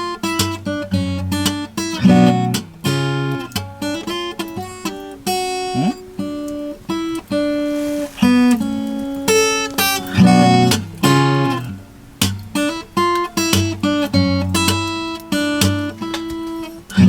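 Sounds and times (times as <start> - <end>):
acoustic guitar picked and strummed: 0.0 - 17.0.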